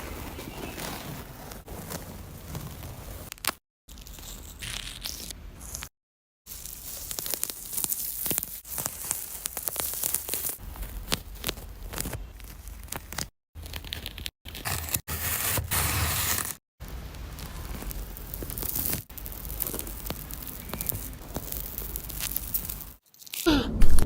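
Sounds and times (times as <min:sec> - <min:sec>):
dense crackling and tearing: 0:00.0 - 0:05.9, 0:06.5 - 0:23.5.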